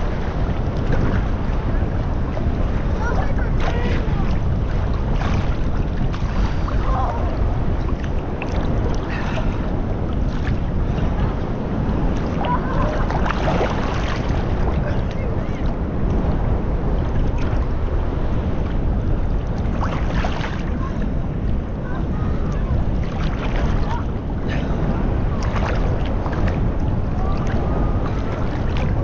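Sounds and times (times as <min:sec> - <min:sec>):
sea water sloshing and splashing: 0:00.0 - 0:29.0
wind on microphone: 0:00.0 - 0:29.0.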